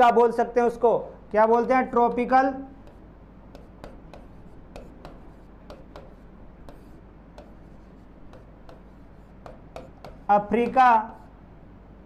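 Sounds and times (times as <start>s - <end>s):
marker scratching on whiteboard: 1.6s - 11.4s.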